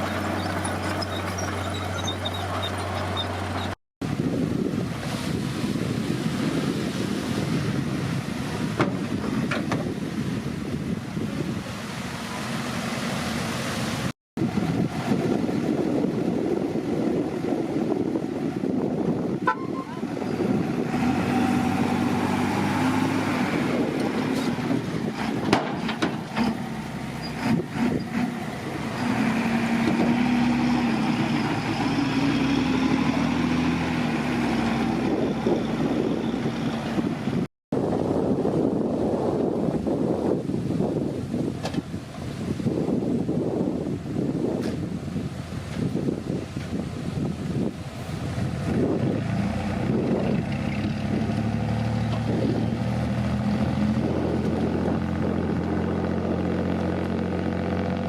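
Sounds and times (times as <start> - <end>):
bulldozer diesel engine working: 0.0 - 37.5, 43.6 - 58.0.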